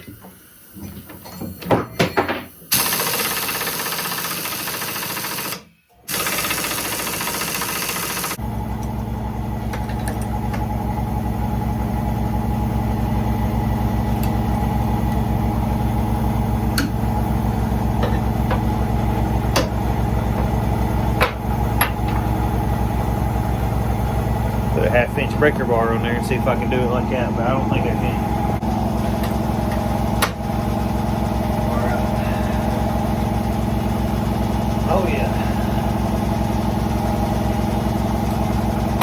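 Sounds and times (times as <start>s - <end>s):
motor machine pulsing: 2.7s - 39.0s.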